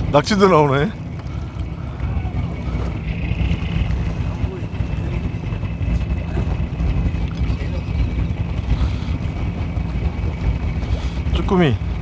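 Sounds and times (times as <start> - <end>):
boat running noise: 0.0 - 12.0
wind buffeting microphone: 0.0 - 12.0.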